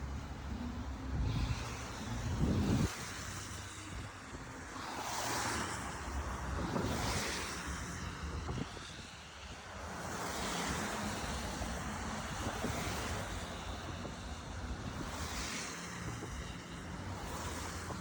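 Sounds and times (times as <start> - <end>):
low traffic rumble: 0.0 - 18.0
tyres hissing on wet road: 0.0 - 18.0.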